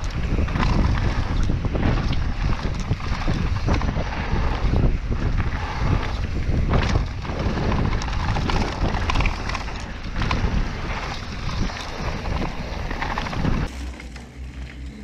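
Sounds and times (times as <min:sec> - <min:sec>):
wind buffeting microphone: 0:00.0 - 0:13.7
bike knocks and rattles: 0:00.0 - 0:14.8.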